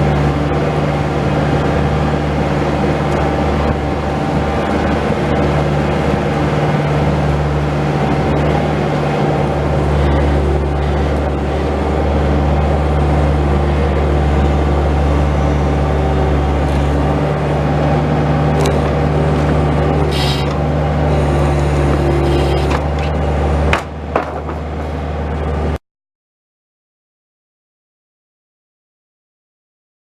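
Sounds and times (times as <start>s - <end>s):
diesel engine running: 0.0s - 25.8s.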